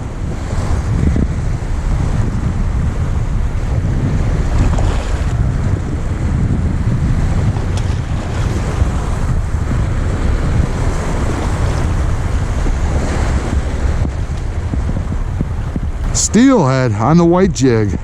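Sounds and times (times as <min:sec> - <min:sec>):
lake water washing on shore: 0:00.0 - 0:18.0
wind buffeting microphone: 0:00.0 - 0:18.0.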